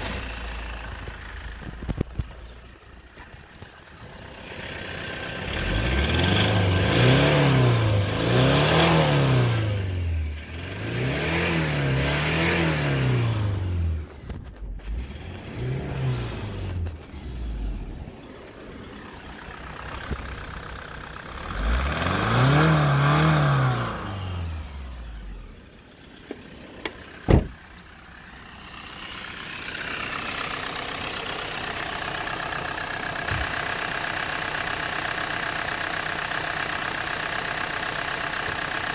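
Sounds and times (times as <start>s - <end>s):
engine idling: 0.0s - 6.9s, 13.3s - 22.3s, 22.9s - 38.9s
diesel engine revving: 0.0s - 38.9s.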